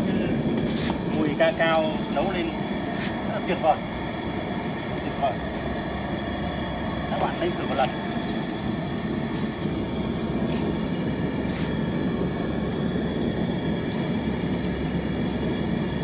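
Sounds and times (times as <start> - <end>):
broth boiling rumble: 0.0 - 16.0.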